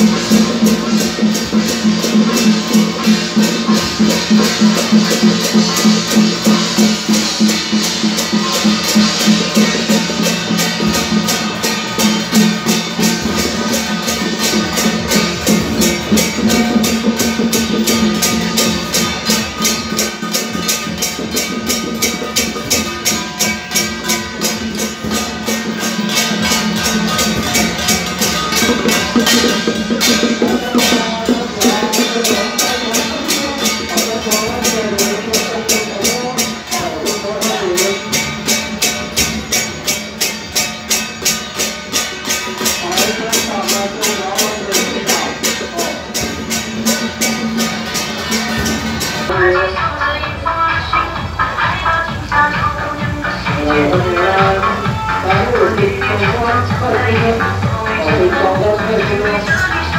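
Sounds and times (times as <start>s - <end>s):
cymbals: 0.0s - 59.9s
drums beating fast rhythm: 0.0s - 59.9s.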